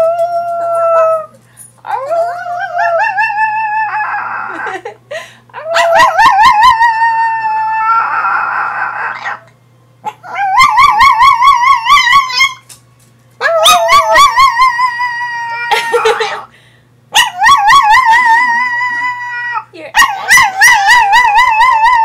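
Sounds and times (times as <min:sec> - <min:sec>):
dog howling: 0:00.0 - 0:04.8, 0:05.6 - 0:09.5, 0:10.1 - 0:12.6, 0:13.4 - 0:16.4, 0:17.2 - 0:22.0.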